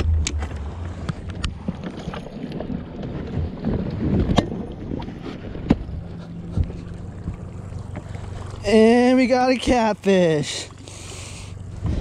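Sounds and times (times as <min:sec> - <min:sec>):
handling rumble: 0:00.0 - 0:12.0.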